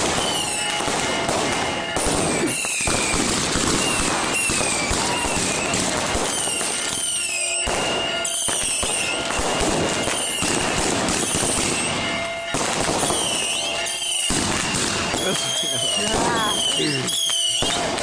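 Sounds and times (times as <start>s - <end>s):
fireworks hissing and crackling: 0.0s - 18.0s
fireworks whistles gliding down: 0.0s - 18.0s
sharp firework crack: 0.0s - 18.0s.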